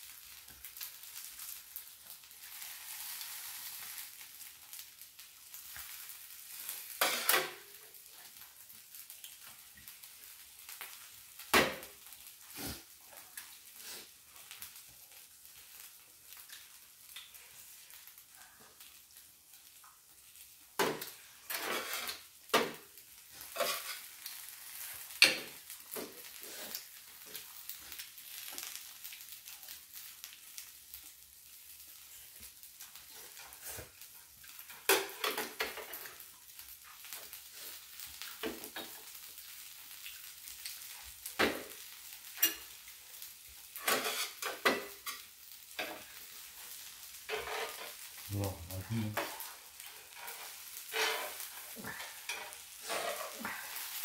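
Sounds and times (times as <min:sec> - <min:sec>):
griddle sizzling: 0:00.0 - 0:54.0.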